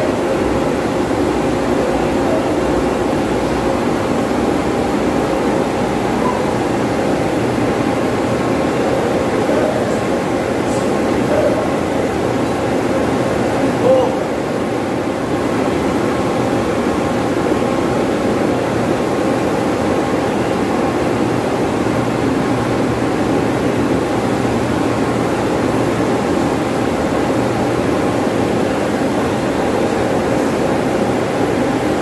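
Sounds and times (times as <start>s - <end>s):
fan blowers droning: 0.0s - 32.0s.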